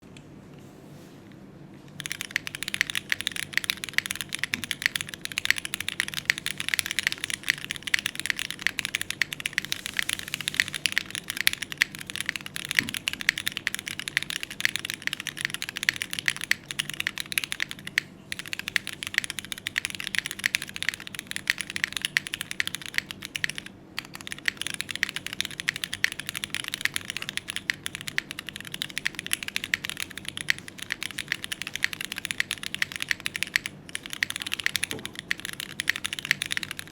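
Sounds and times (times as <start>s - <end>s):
mechanical keyboard key clacks: 2.0s - 36.9s.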